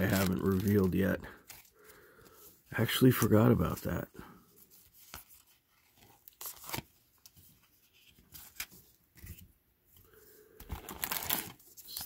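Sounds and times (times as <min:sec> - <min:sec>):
trading cards rustling and clicking: 0:00.0 - 0:12.0.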